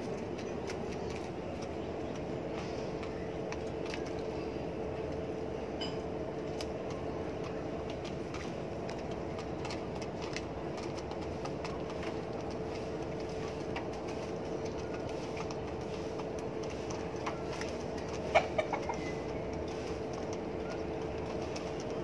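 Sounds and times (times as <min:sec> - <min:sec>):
background hum: 0:00.0 - 0:22.0
pigeons pecking plastic feeder: 0:00.0 - 0:22.0.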